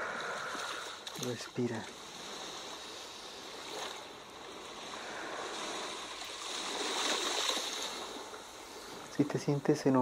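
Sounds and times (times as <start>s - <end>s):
sea waves washing in: 0.0s - 10.0s.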